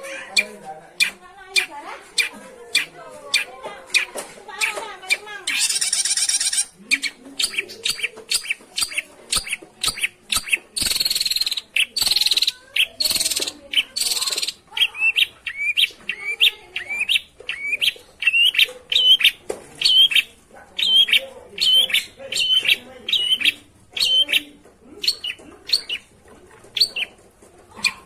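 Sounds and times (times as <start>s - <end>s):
shrike calling: 0.0s - 26.1s.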